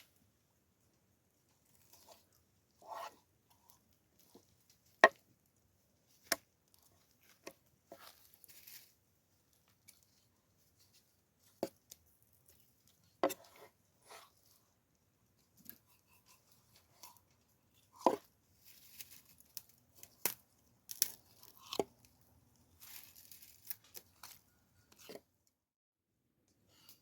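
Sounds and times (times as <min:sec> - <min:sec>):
handling and rustling: 0:00.0 - 0:25.4.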